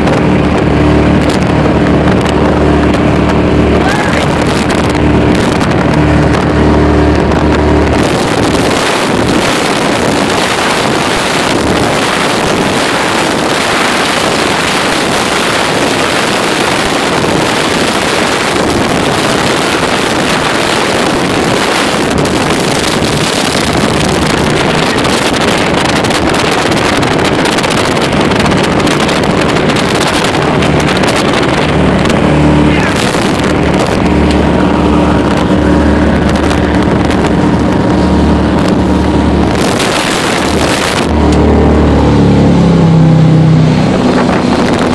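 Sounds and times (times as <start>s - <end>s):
boat engine drone: 0.0s - 44.9s
rushing water: 0.0s - 44.9s
wind on microphone: 0.0s - 44.9s.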